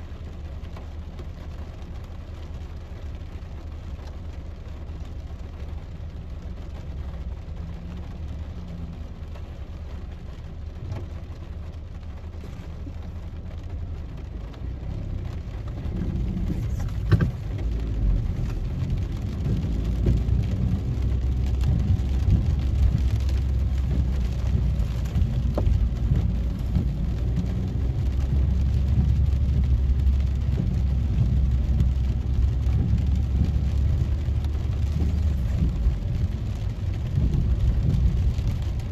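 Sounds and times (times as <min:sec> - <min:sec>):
car engine and road rumble: 0:00.0 - 0:38.9
rain pattering on car: 0:00.0 - 0:38.9.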